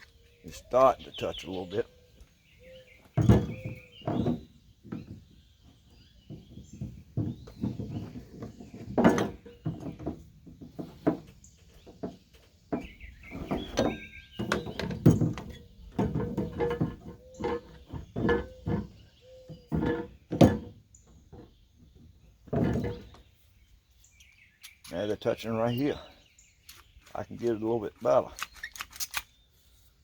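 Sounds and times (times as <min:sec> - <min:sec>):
shears knocking and clunking: 0:00.0 - 0:23.4, 0:24.2 - 0:29.3.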